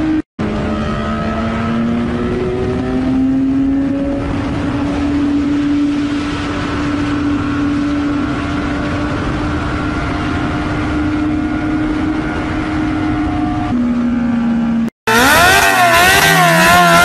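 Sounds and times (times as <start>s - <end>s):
heavy wind rush: 0.0s - 14.1s
motorcycle engine at high revs: 0.0s - 17.0s.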